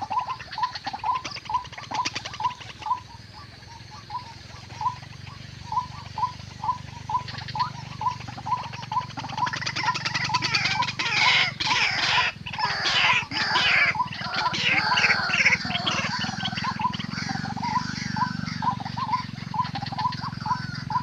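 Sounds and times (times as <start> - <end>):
steady low hum: 0.0 - 21.0
waterhen rapid curving calls: 0.0 - 21.0.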